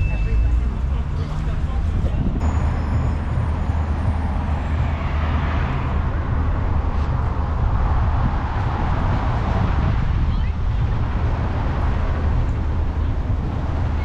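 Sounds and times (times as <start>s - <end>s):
steady low traffic rumble: 0.0s - 14.0s
vehicle passing: 0.0s - 14.0s.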